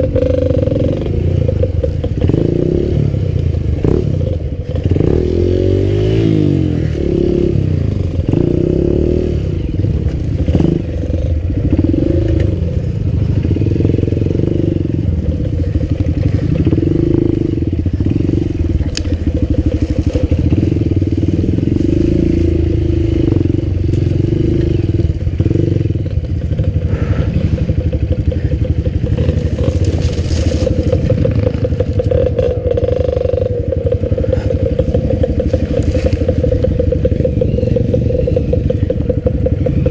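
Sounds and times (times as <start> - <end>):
dirt bike engine revving: 0.0 - 39.9
engine clatter: 0.0 - 39.9.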